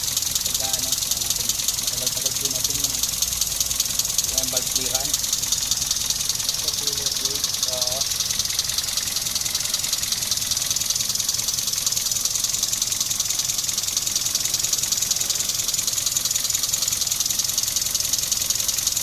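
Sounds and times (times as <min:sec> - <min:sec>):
engine idling with ticking clatter: 0:00.0 - 0:19.0.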